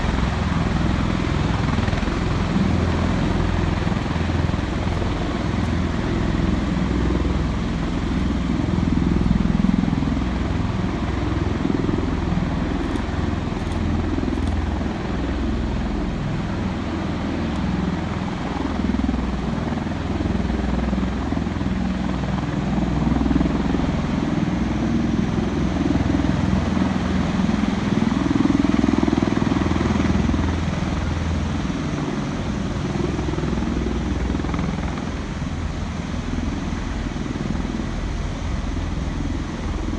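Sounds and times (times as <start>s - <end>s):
aircraft engines and rotors rumbling: 0.0s - 39.9s.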